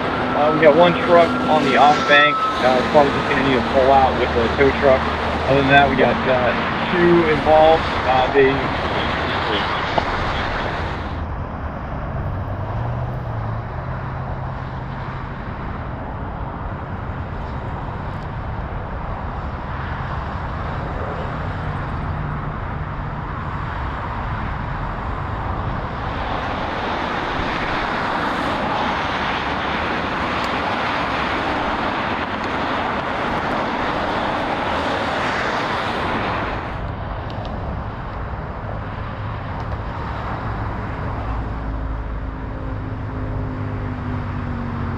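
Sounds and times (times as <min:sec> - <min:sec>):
freeway traffic rushing: 0:00.0 - 0:44.9.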